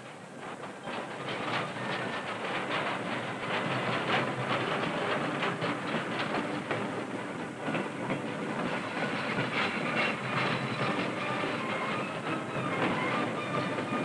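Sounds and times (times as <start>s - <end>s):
train cars rattling: 0.0s - 14.0s
train clanks and knocks: 0.0s - 14.0s.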